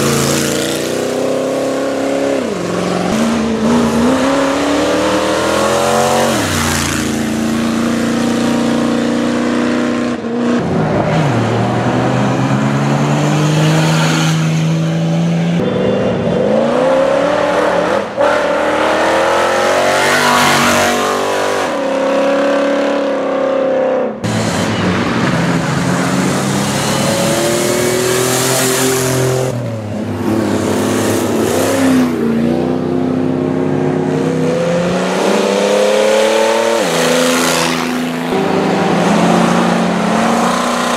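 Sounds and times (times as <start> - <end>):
race vehicle engines revving: 0.0 - 40.9.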